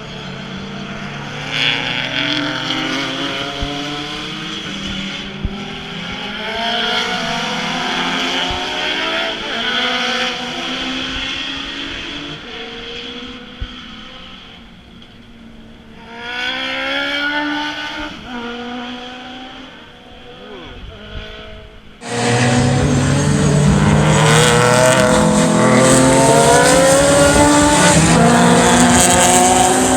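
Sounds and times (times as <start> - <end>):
race car engines revving past: 0.0 - 14.8, 16.0 - 29.9.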